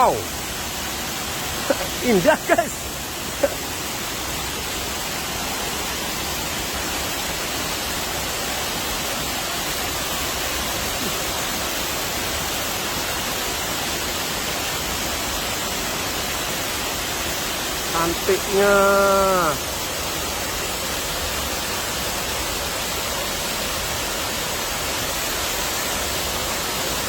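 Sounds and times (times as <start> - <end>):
waterfall falling into pool: 0.0 - 27.0.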